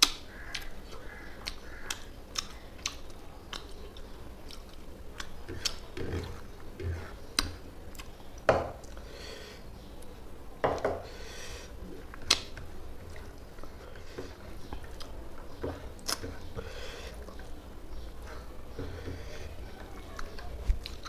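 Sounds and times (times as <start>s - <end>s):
chewing: 0.4s - 9.1s, 11.8s - 17.6s, 18.2s - 21.0s.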